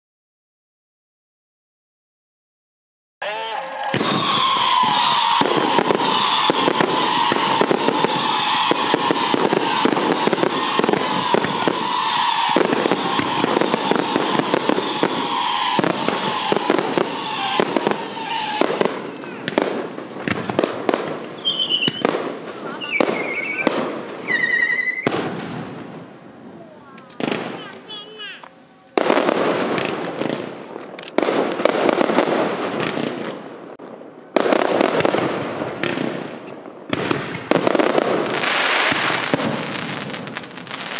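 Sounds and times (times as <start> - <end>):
fireworks whistling: 3.2 - 40.9
fireworks crackling and banging: 3.6 - 40.9.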